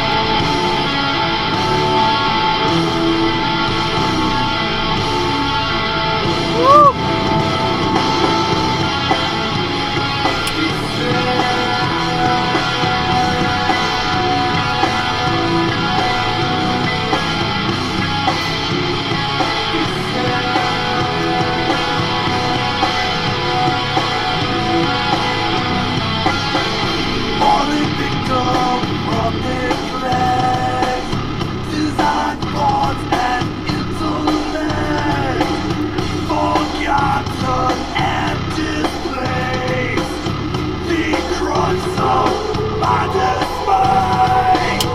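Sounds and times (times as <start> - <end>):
rock music with singing: 0.0 - 44.9.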